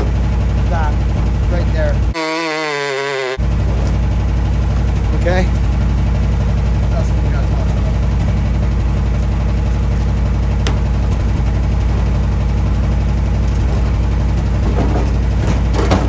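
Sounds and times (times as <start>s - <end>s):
chainsaw engine idling: 0.0s - 15.8s.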